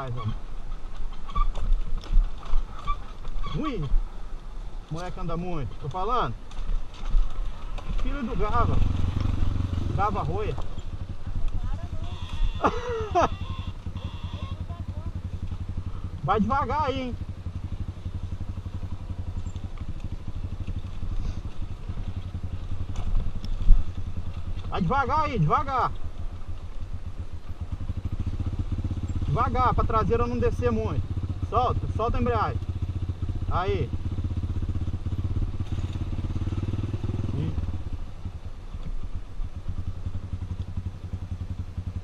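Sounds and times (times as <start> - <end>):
motorcycle engine running at low revs: 0.0 - 42.0
light engine clatters: 0.2 - 3.7, 5.7 - 16.3, 17.7 - 42.0.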